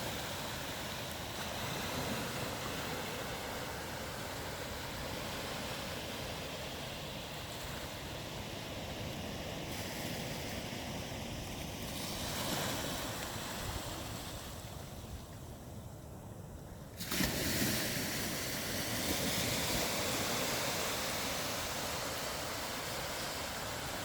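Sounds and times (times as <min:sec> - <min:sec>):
waves breaking on beach: 0:00.0 - 0:15.6, 0:16.9 - 0:24.0.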